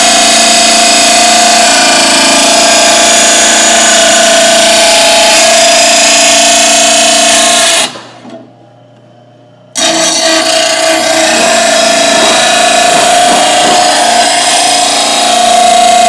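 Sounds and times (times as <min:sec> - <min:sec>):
bench grinder whine: 0:00.0 - 0:08.0, 0:09.8 - 0:16.0.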